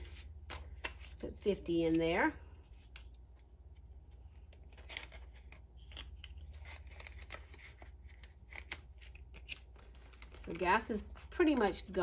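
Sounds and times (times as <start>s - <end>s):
paper envelopes and banknotes rustling: 0.0s - 12.0s.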